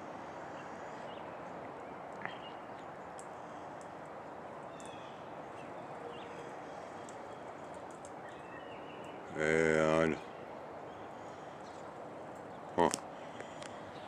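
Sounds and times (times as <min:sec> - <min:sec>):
songbirds chirping: 0:00.0 - 0:14.0
steady outdoor hiss: 0:00.0 - 0:14.0.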